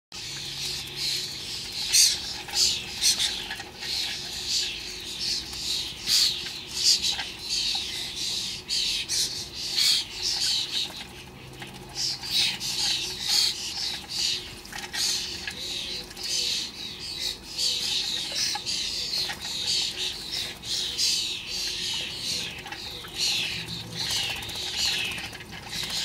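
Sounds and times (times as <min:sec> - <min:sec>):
starlings harsh rasping calls: 0:00.2 - 0:26.0.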